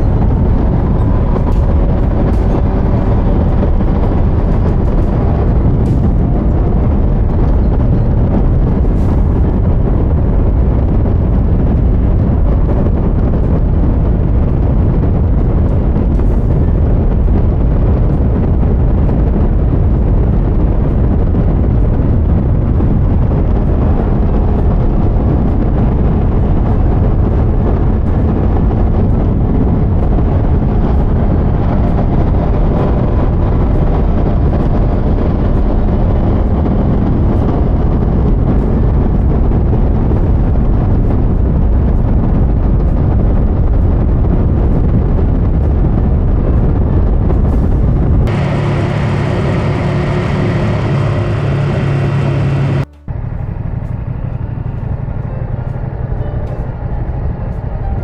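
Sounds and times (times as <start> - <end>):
heavy wind rush on microphone: 0.0 - 58.0
motorcycle engine hum: 0.0 - 58.0.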